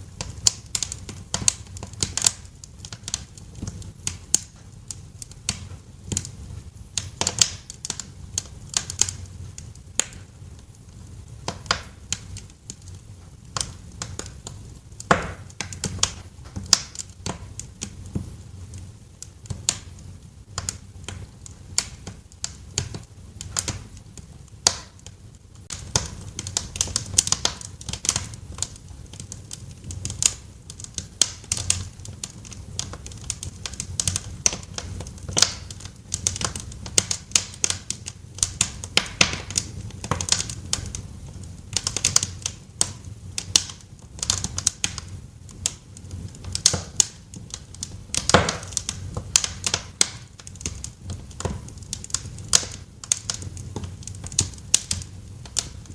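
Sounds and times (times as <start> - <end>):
low rumble of burning fire: 0.0 - 55.9
wood fire crackling and popping: 0.0 - 55.9.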